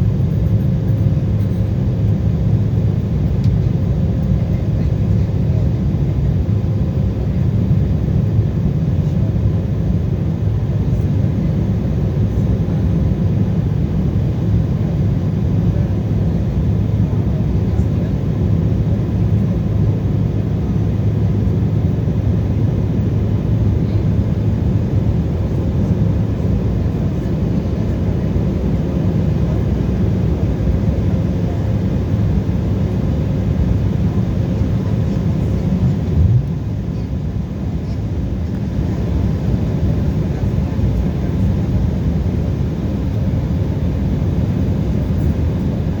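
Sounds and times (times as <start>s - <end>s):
airliner engines from cabin: 0.0s - 46.0s.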